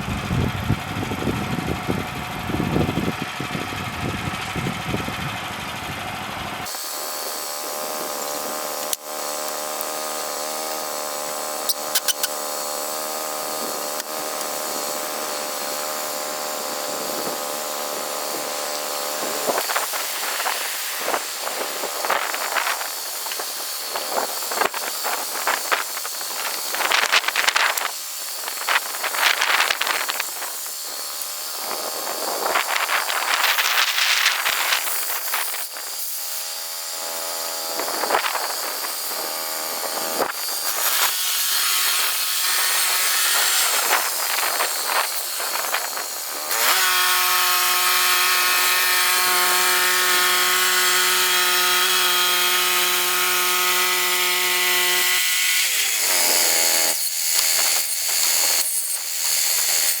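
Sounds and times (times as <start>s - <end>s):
chainsaw cutting wood: 0.0s - 60.0s.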